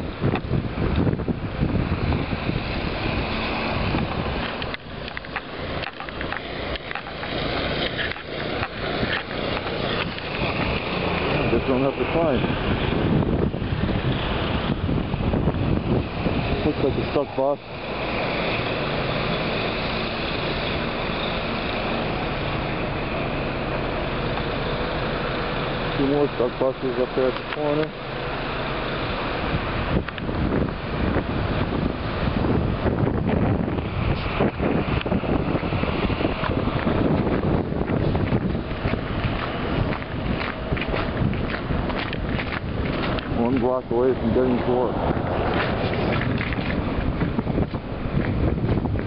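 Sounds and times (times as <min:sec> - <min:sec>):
car engine running: 0:00.0 - 0:49.0
street noise: 0:00.0 - 0:49.0
wind buffeting microphone: 0:00.0 - 0:49.0.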